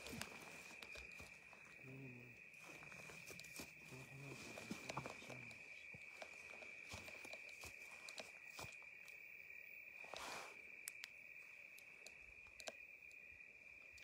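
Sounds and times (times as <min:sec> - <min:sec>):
clicks and crunches on dry ground: 0:00.0 - 0:14.0
crickets trilling: 0:00.0 - 0:14.0.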